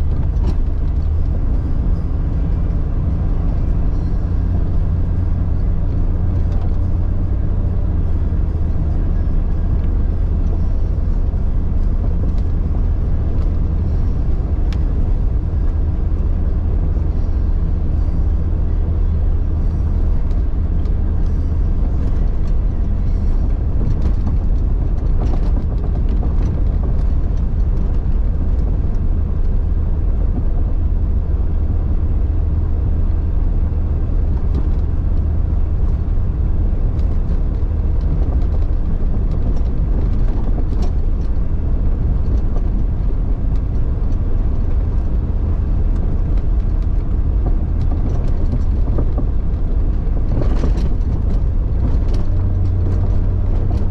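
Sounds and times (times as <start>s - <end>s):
car engine droning: 0.0s - 53.9s.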